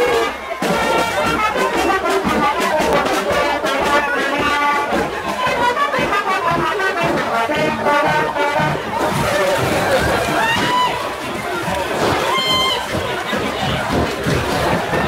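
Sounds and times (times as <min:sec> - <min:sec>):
marching brass band playing: 0:00.0 - 0:15.0.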